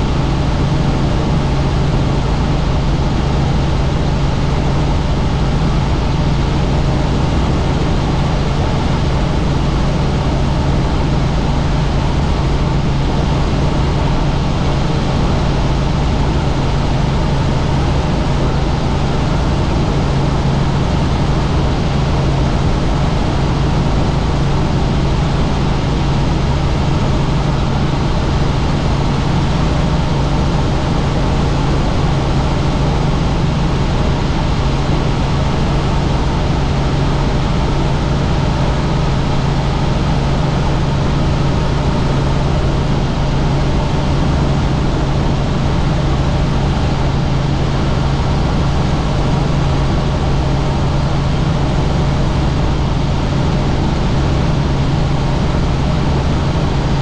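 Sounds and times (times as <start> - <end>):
helicopter in flight: 0.0 - 57.0.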